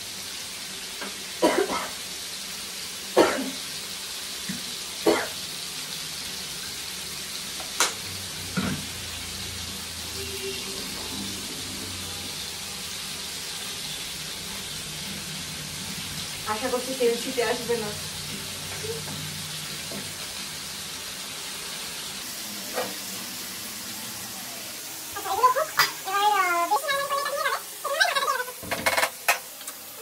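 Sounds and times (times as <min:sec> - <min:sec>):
prawns sizzling in oil: 0:00.0 - 0:30.0.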